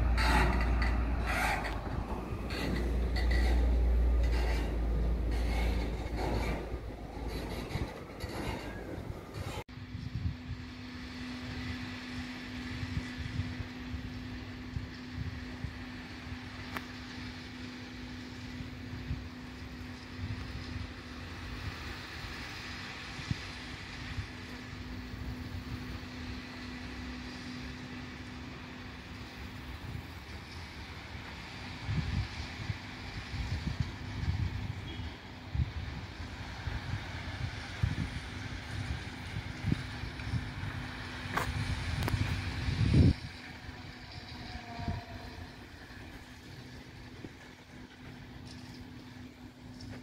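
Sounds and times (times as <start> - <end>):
wind buffeting microphone: 0.0 - 26.7, 29.4 - 50.0
faint engine hum: 0.0 - 50.0.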